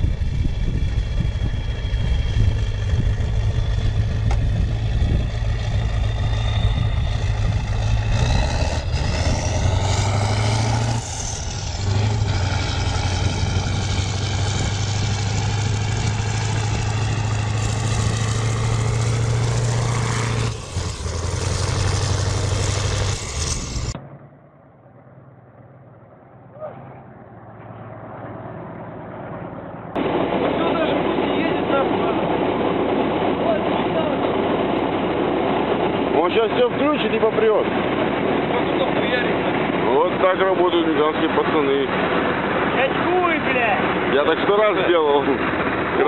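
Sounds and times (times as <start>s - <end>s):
heavy vehicle engine running: 0.0s - 46.0s.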